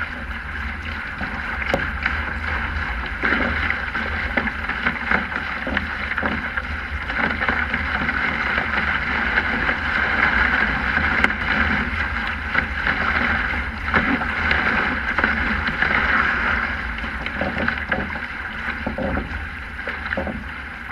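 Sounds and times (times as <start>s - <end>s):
water rushing along hulls: 0.0s - 20.9s
wind rumble on microphone: 0.0s - 20.9s.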